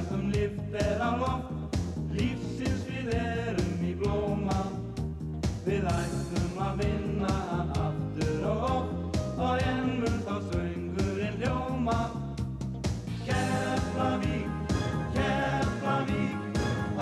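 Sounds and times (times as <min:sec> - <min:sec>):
song with vocals and band: 0:00.0 - 0:17.0.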